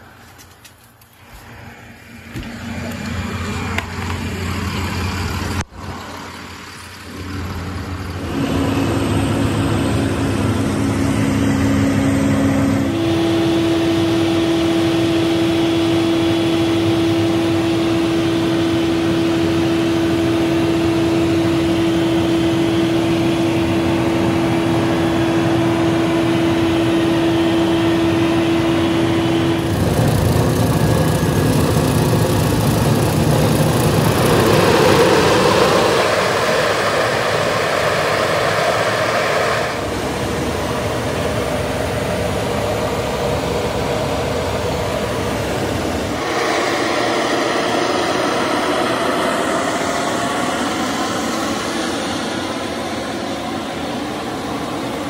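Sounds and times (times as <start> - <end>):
plant machinery running: 0.0 - 55.0.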